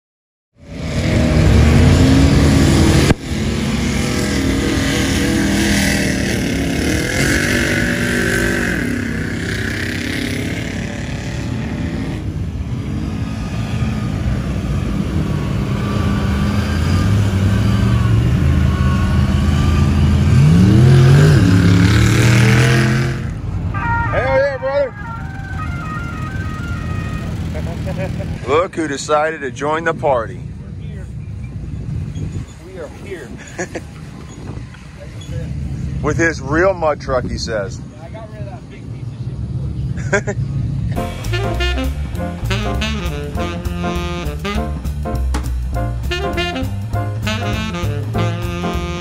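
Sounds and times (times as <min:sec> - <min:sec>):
truck engines revving: 0:00.6 - 0:49.0.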